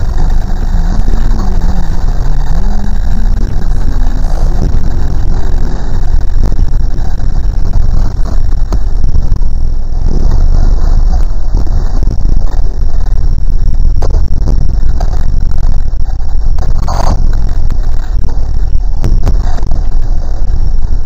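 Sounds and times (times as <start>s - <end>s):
bright crackle: 0.0s - 21.0s
distorted low rumble: 0.0s - 21.0s.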